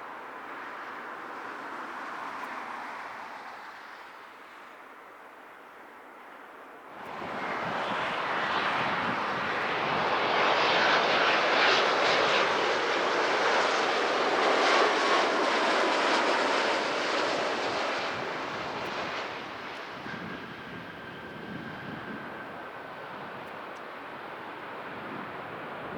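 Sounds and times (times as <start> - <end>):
jet engines passing by: 0.0 - 25.9.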